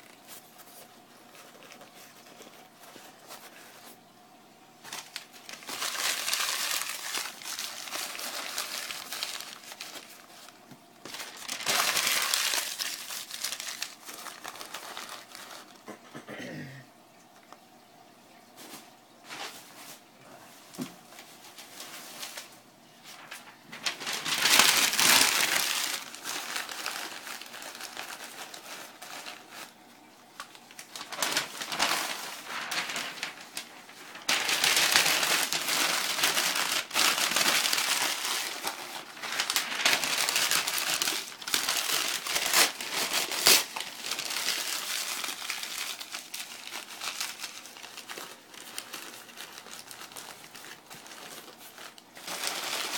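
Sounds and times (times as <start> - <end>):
newspaper crumpling: 0.0 - 4.2, 4.8 - 15.8, 20.6 - 52.9.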